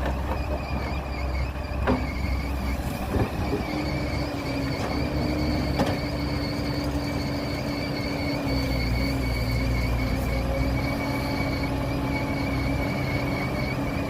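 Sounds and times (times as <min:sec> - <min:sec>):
heavy diesel machinery rumbling: 0:00.0 - 0:14.0.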